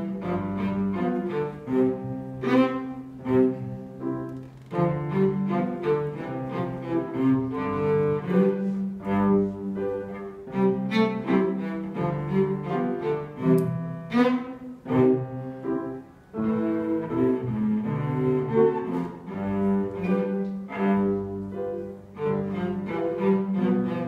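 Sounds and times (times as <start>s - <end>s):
cello playing: 0.0s - 24.0s
piano: 0.0s - 24.0s.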